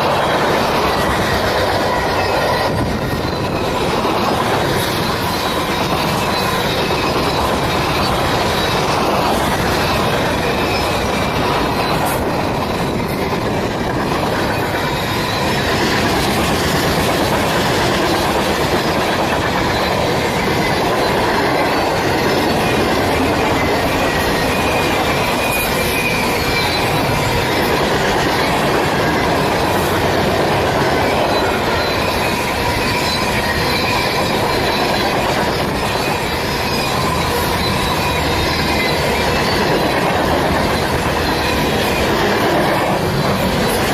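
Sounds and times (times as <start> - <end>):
faint metallic wheel squeal: 0.0 - 43.9
train wheels rumbling on rails: 0.0 - 43.9.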